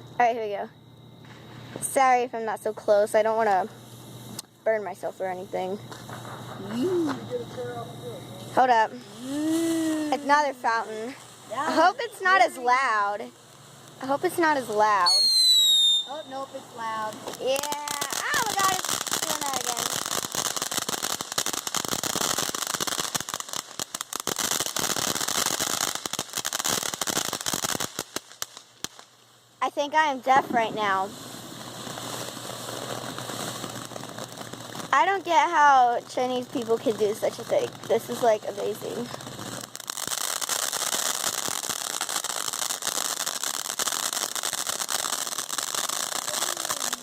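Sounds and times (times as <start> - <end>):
firework fountain crackling: 0.0 - 47.0.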